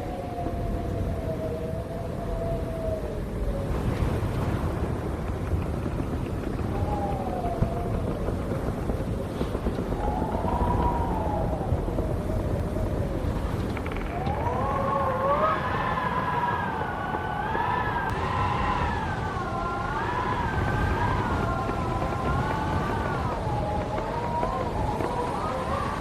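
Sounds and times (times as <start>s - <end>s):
low rumble of wind: 0.0s - 26.0s
wind whistling: 0.0s - 26.0s.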